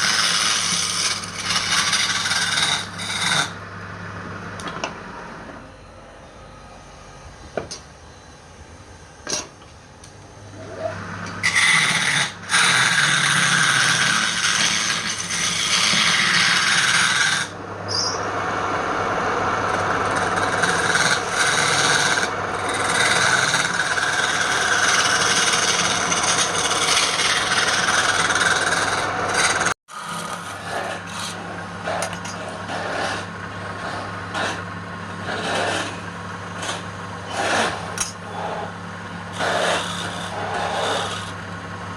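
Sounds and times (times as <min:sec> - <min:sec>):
tool scraping spinning wood: 0:00.0 - 0:03.6, 0:10.5 - 0:41.6
wood lathe motor humming: 0:00.0 - 0:03.6, 0:10.5 - 0:17.7, 0:18.3 - 0:41.8.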